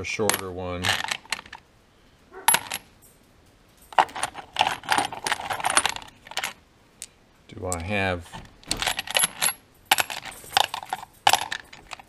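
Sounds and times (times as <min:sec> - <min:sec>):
metal bolts clinking and rattling: 0:00.0 - 0:01.6, 0:02.4 - 0:06.6, 0:07.6 - 0:12.0.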